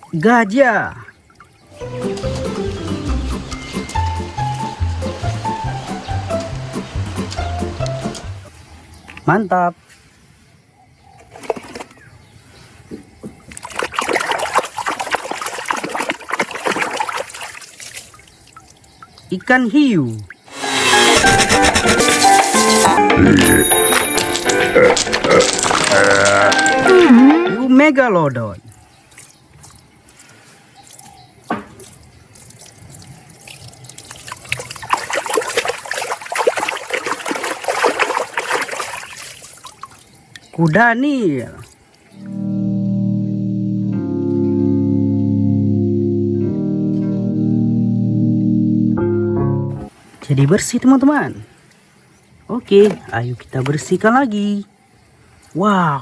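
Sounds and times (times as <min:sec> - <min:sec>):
water splashing and trickling: 0:00.0 - 0:10.5, 0:11.2 - 0:20.6, 0:22.3 - 0:42.3, 0:49.8 - 0:56.0.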